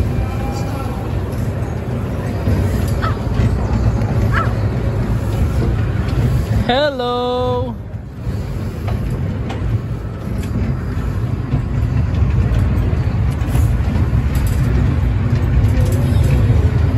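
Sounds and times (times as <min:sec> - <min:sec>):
amusement train rumbling on track: 0:00.0 - 0:16.9.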